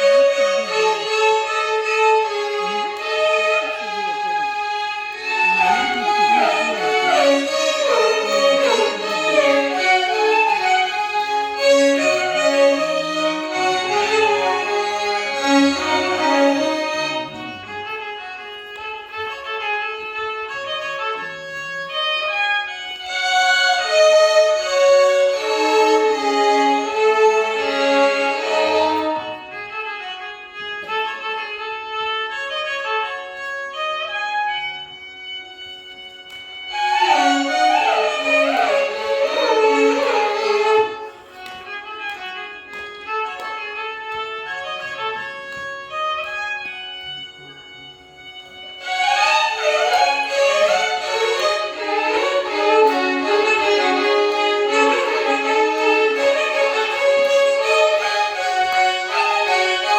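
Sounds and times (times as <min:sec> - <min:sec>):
violin orchestra melody: 0:00.0 - 0:59.9.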